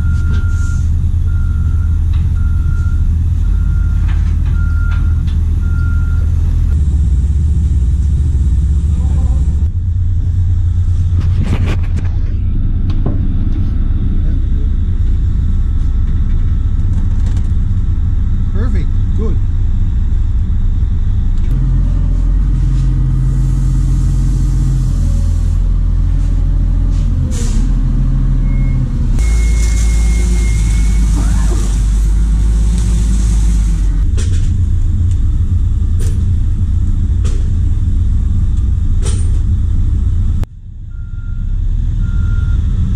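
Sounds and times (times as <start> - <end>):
heavy machinery rumbling: 0.0 - 42.9.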